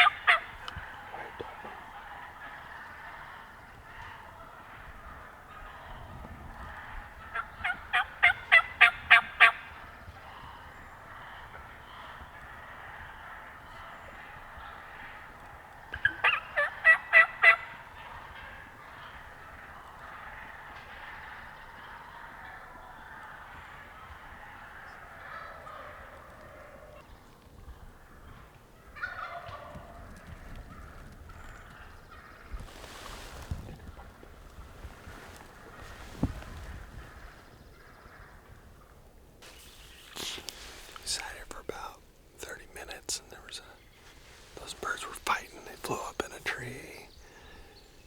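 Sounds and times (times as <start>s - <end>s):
wild turkey yelping: 0.0s - 48.0s.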